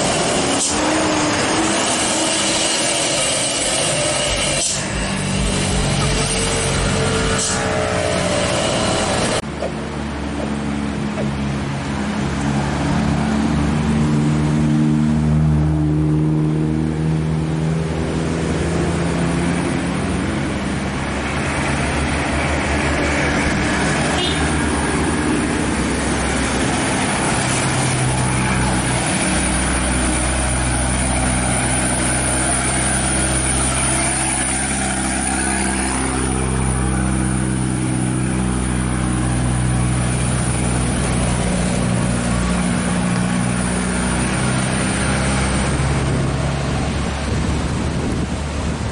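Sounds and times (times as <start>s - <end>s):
diesel truck engine pulling hard: 0.0s - 48.9s.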